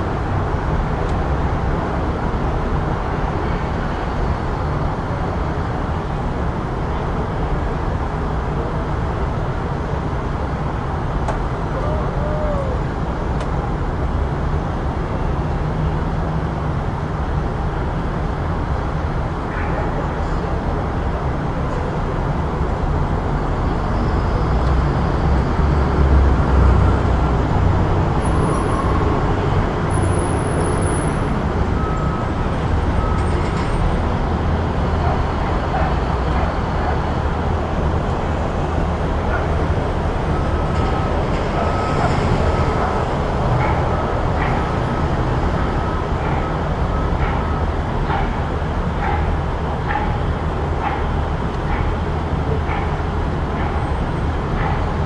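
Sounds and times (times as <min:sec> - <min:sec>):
passing vehicles: 0:00.0 - 0:55.0.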